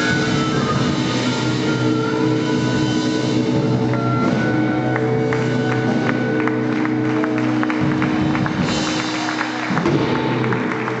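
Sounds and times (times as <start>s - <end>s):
live blues-rock band: 0.0s - 11.0s.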